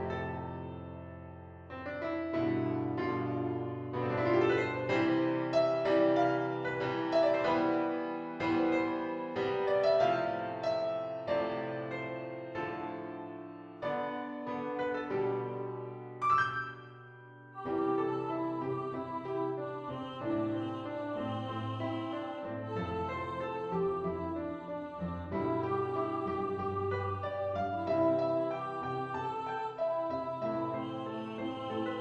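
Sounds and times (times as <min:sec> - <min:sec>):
slow gentle piano piece: 0:00.0 - 0:32.0.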